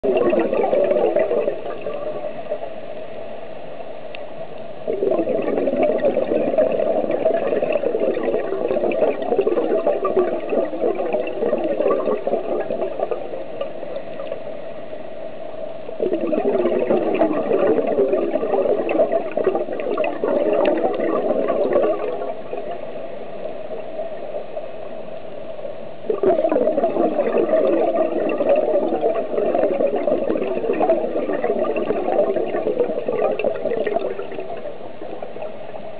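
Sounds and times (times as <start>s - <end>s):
bubbles gurgling underwater: 0.0s - 2.7s, 4.8s - 14.6s, 15.8s - 24.7s, 26.0s - 35.9s.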